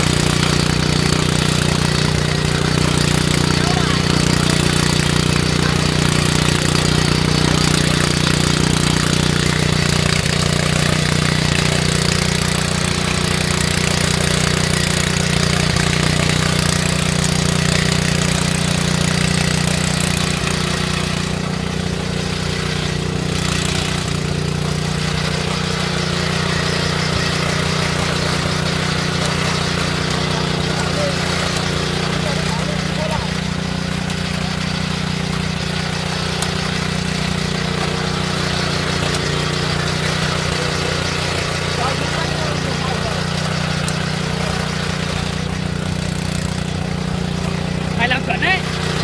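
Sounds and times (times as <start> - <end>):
tiller engine running: 0.0 - 49.0
tines churning soil: 0.0 - 49.0.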